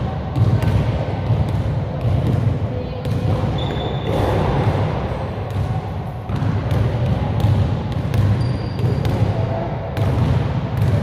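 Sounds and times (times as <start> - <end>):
basketball bouncing on gym floor: 0.1 - 11.0.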